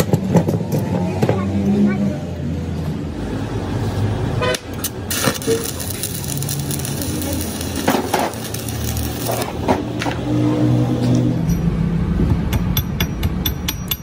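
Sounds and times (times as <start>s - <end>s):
vehicle engine humming: 0.0s - 13.7s.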